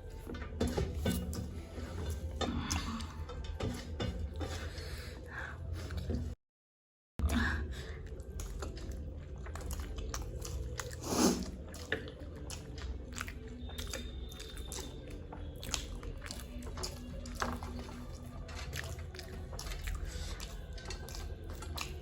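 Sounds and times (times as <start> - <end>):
chewing crunchy puffed rice: 0.0 - 6.3, 7.2 - 22.0.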